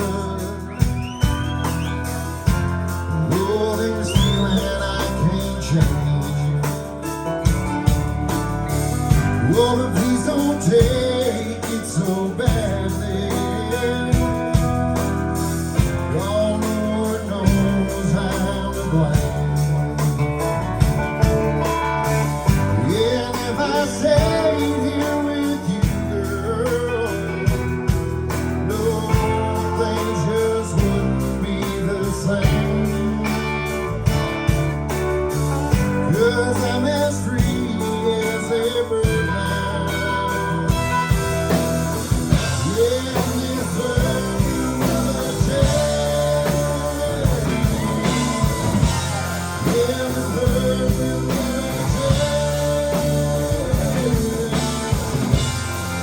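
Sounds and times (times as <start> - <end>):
live band playing country-rock: 0.0 - 56.0.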